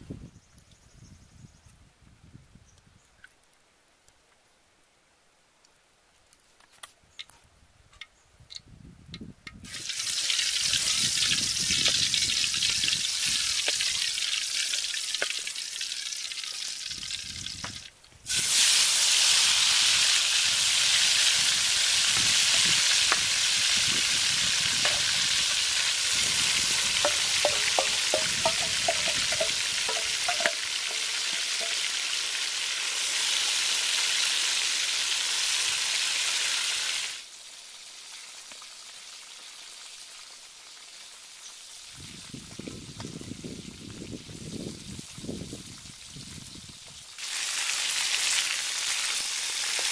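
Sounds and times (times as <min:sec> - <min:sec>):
chicken sizzling in hot oil: 0:09.6 - 0:49.9.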